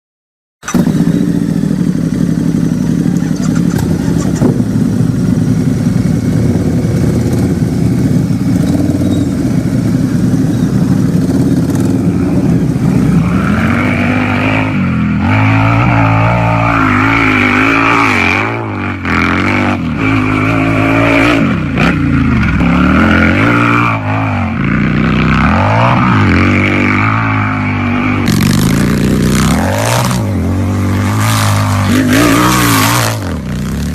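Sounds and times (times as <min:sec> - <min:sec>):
motorcycle engine idling and revving: 0:00.6 - 0:33.9.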